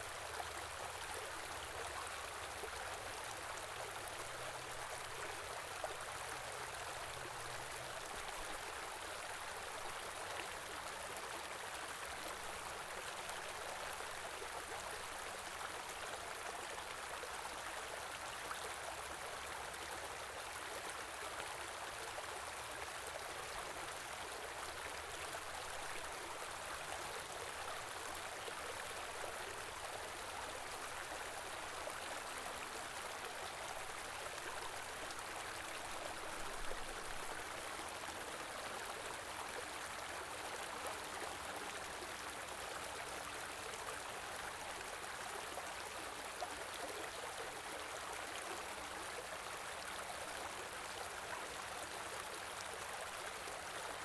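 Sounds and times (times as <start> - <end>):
shallow stream gurgling: 0.0 - 54.0.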